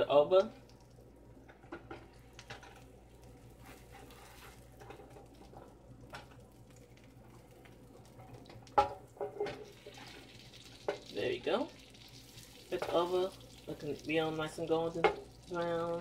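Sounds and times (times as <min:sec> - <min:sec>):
butter sizzling in a skillet: 0:01.5 - 0:16.0.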